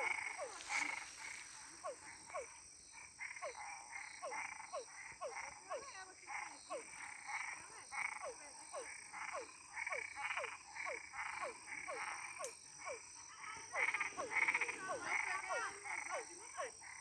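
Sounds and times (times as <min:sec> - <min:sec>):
frog croaking rhythmically: 0:00.0 - 0:17.0
warbling frog calls: 0:00.0 - 0:17.0.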